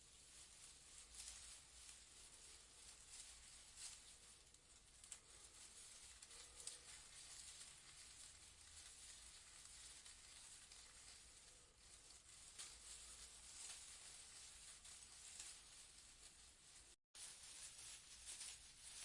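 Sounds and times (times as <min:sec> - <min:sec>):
faint even hiss: 0:00.0 - 0:19.0.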